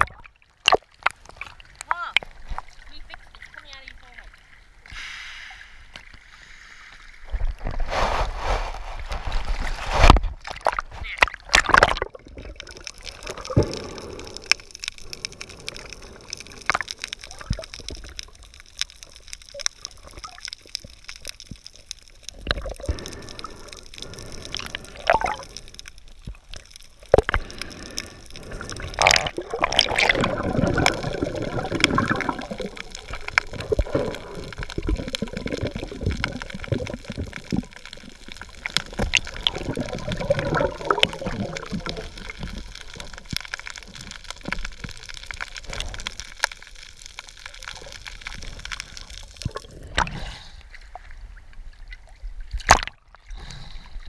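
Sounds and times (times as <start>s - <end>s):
water sloshing and gurgling: 0.0s - 54.0s
splashes: 7.2s - 53.8s.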